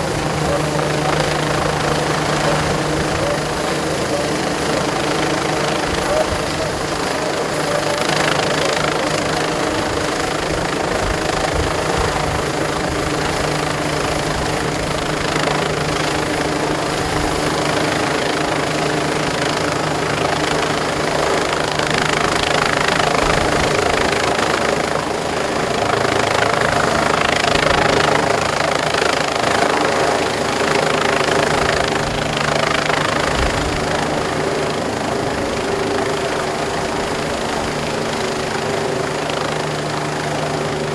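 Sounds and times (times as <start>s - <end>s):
helicopter rotor and turbine drone: 0.0s - 40.9s.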